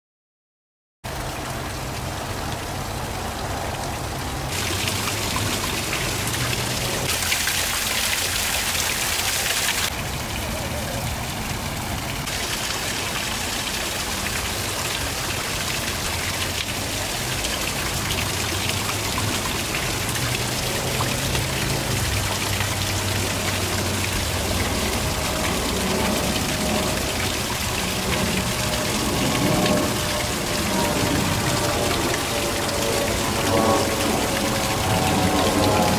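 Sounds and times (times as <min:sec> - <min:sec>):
small waterfall splashing: 0:01.0 - 0:35.9.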